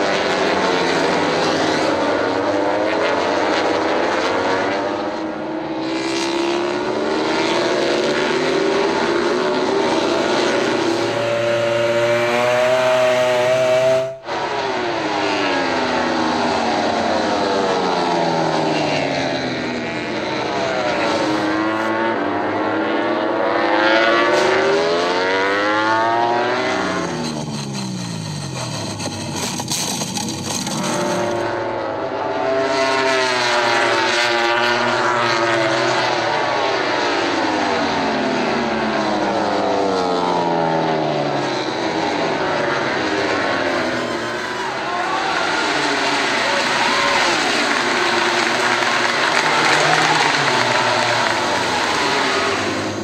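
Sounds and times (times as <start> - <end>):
racing motorcycles passing: 0.0 - 53.0.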